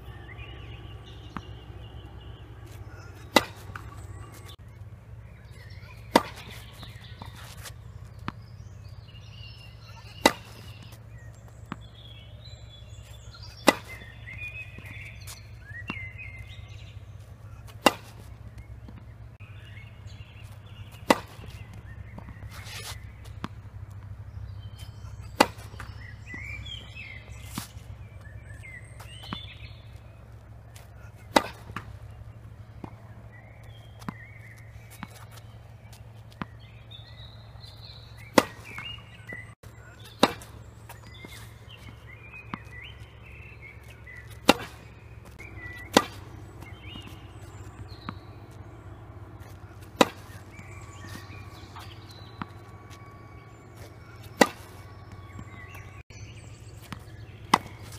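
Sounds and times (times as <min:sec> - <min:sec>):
tennis ball struck by racket: 0:00.0 - 0:04.6, 0:05.3 - 0:57.9
birds chirping: 0:00.0 - 0:57.9
ball bouncing on hard court: 0:00.4 - 0:04.6, 0:05.5 - 0:30.0, 0:30.7 - 0:32.2, 0:32.8 - 0:56.1, 0:56.8 - 0:57.9.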